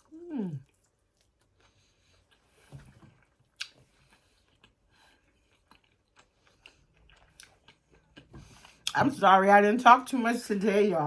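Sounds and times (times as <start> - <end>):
faint chewing: 0.0 - 9.0.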